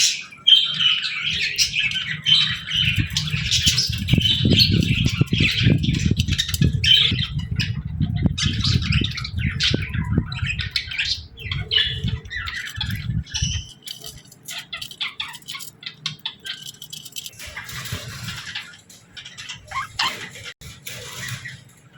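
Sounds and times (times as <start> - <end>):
budgerigars chirping: 0.0 - 20.5.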